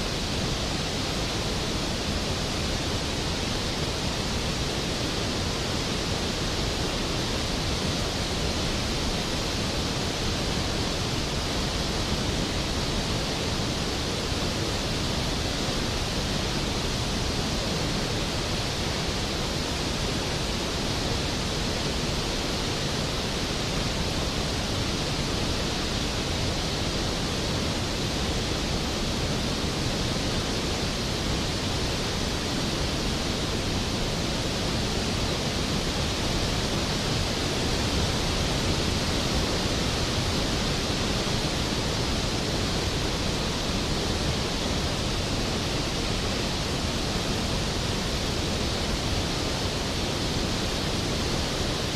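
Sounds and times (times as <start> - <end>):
waterfall roaring: 0.0 - 51.9.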